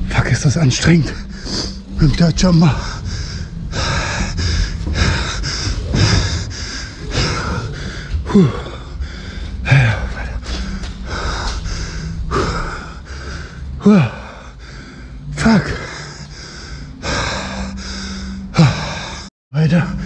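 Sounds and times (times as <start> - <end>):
low rumble: 0.0 - 20.0
person panting: 1.2 - 2.0, 2.7 - 19.3.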